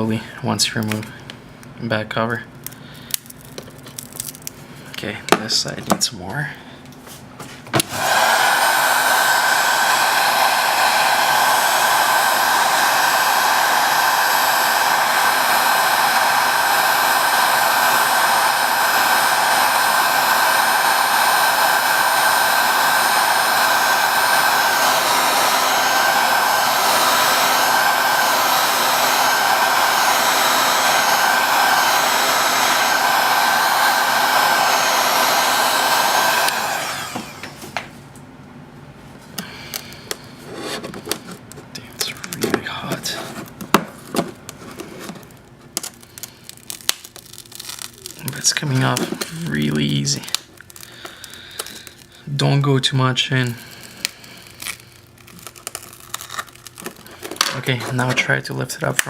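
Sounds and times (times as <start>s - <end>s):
hot-air blower whining: 4.2s - 38.3s, 39.2s - 59.0s.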